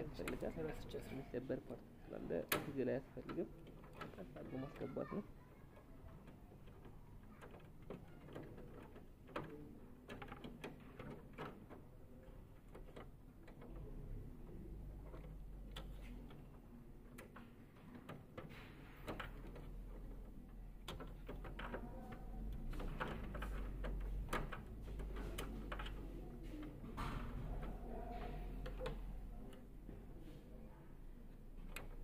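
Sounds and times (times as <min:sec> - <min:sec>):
plastic clicks and knocks: 0:02.4 - 0:05.3, 0:06.2 - 0:14.1, 0:15.0 - 0:29.7, 0:31.5 - 0:32.0.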